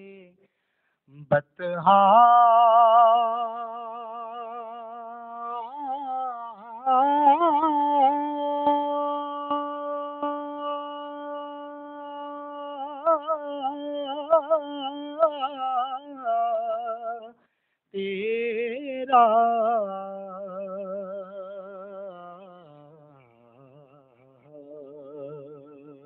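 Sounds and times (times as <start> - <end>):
person singing devotional song: 0.0 - 26.0.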